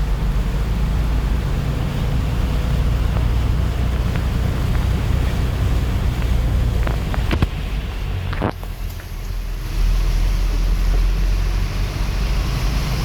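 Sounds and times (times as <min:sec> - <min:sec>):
deep rumble: 0:00.0 - 0:13.0.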